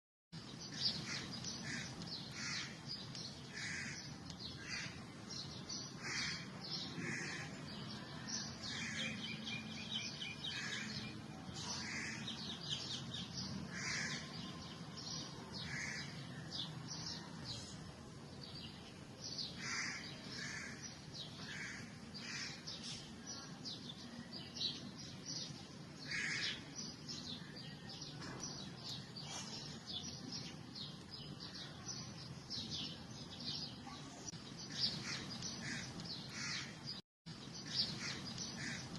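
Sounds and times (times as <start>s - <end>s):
birds chirping: 0.4s - 38.9s.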